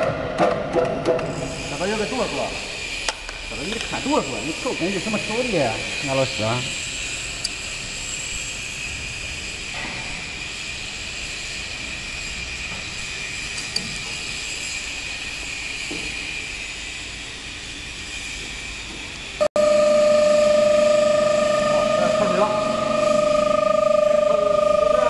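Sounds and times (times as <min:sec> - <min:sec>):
high machine whine: 0:00.0 - 0:25.0
lower steady whine: 0:00.0 - 0:25.0.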